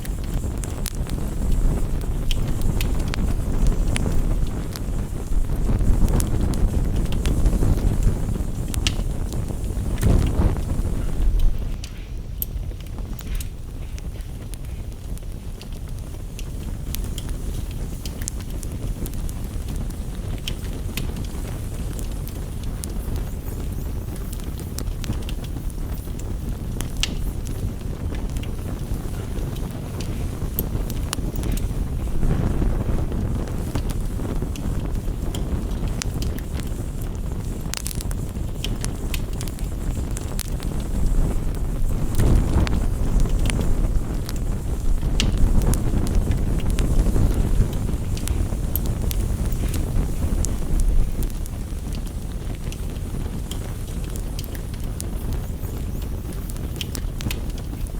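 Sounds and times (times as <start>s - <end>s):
low fire rumble: 0.0s - 57.9s
wood fire crackling and popping: 0.0s - 57.9s.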